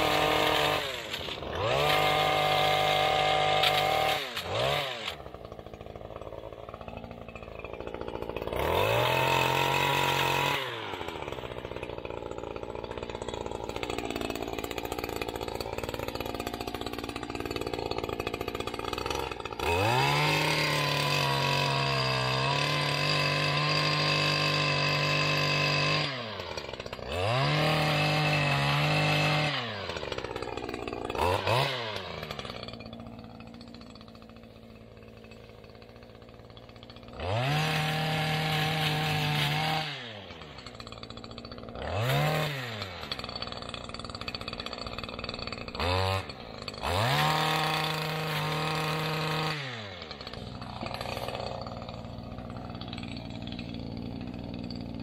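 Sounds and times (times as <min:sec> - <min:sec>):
two-stroke brush cutter revving: 0:00.0 - 0:55.0.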